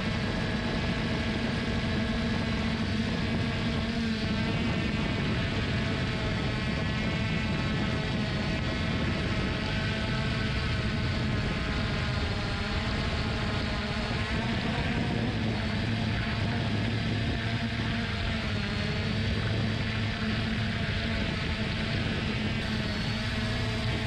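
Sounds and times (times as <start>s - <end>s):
drone propellers buzzing: 0.0s - 24.0s.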